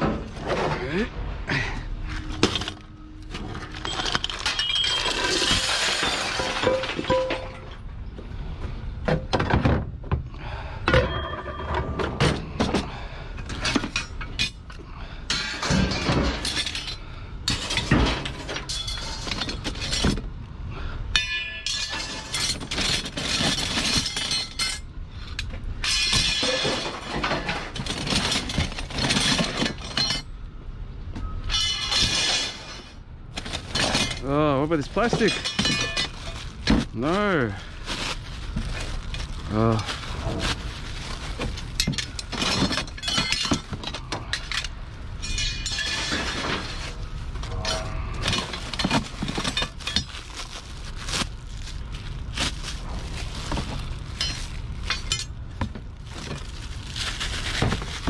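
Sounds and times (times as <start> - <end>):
scrap pieces clinking and clattering: 2.2 - 7.9, 13.5 - 20.3, 21.2 - 30.4, 31.4 - 37.2, 37.9 - 58.0.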